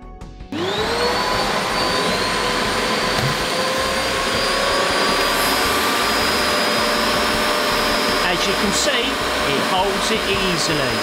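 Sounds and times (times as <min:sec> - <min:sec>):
vacuum motor whine: 0:00.5 - 0:11.0.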